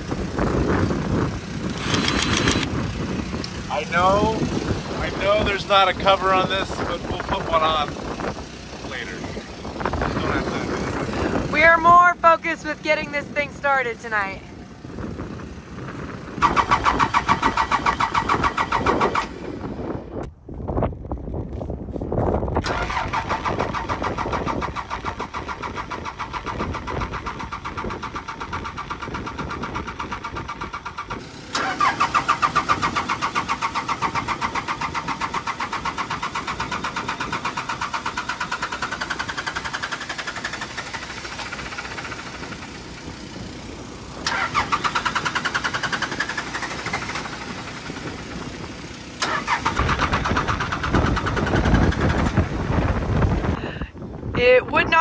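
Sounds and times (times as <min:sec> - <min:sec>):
diesel engine cranking: 0:00.0 - 0:55.0
starter whine: 0:00.0 - 0:55.0.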